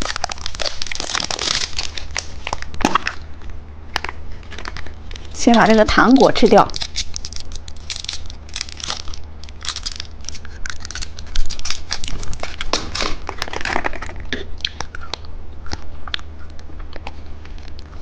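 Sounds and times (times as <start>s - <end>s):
plastic wrapper crinkling and tearing: 0.0s - 15.2s.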